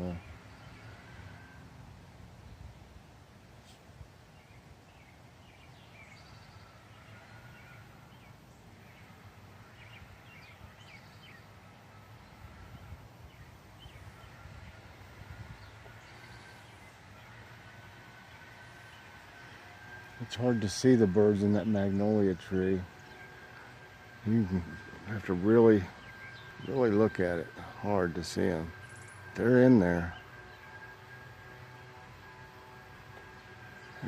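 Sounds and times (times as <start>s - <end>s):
breeze rumble: 0.0s - 34.0s
distant leaf blower whine: 0.0s - 34.0s
songbirds chirping: 0.0s - 34.0s.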